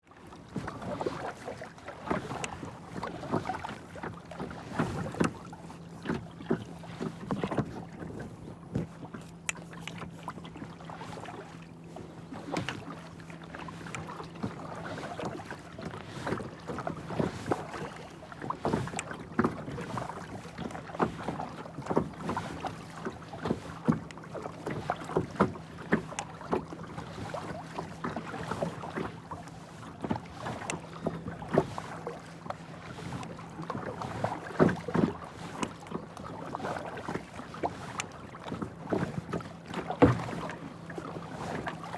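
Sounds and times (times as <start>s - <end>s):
paddle splashing in water: 0.0s - 41.9s.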